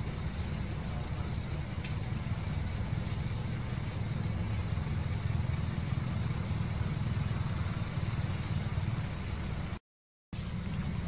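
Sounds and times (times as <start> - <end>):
faint hiss: 0.0 - 9.8
steady low rumble: 0.0 - 9.8, 10.4 - 11.0.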